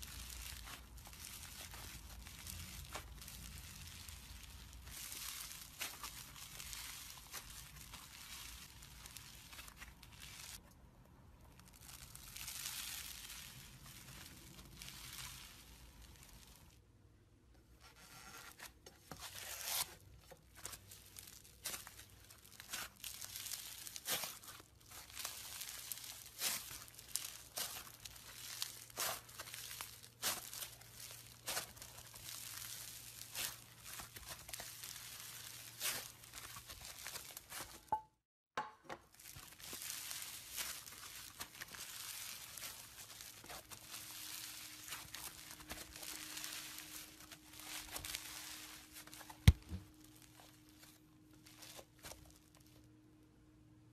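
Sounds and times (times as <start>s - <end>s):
slime crackling and popping: 0.0s - 10.6s, 11.3s - 16.7s, 20.3s - 37.8s, 39.1s - 52.8s.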